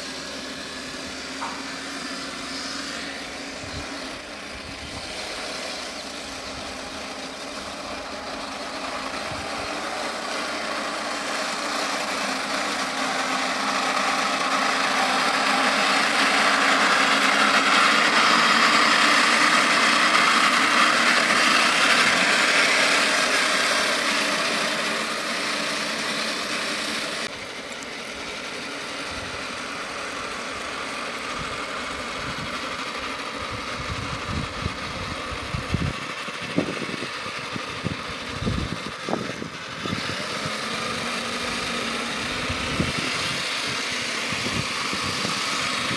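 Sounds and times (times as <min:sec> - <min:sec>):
toy tank mechanical whirr: 0:00.0 - 0:45.9.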